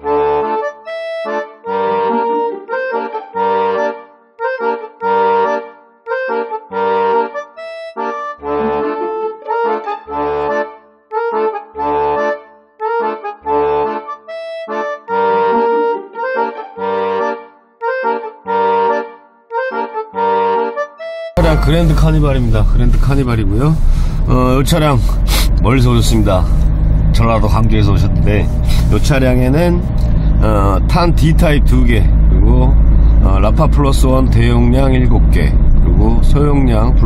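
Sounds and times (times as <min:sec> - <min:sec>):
lively tune over bass beat: 0:00.0 - 0:37.0.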